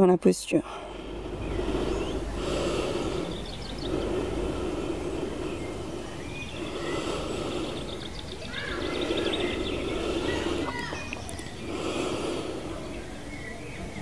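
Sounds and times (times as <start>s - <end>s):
small birds chirping: 0.2s - 14.0s
slow breathing: 0.6s - 14.0s.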